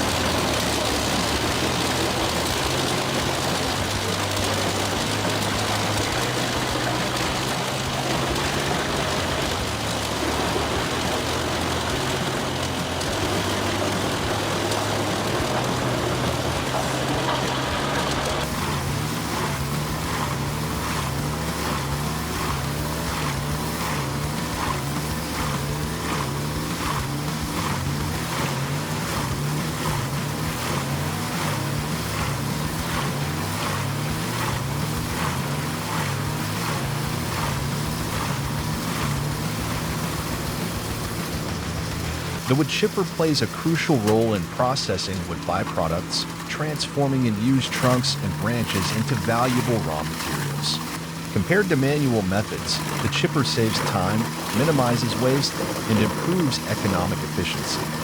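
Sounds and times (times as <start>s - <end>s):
wood chipper engine running: 0.0s - 58.0s.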